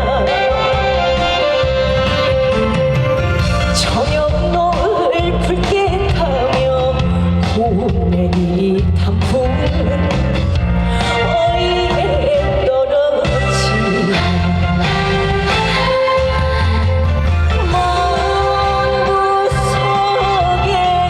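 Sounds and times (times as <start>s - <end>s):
trot backing track over pa: 0.0s - 21.0s.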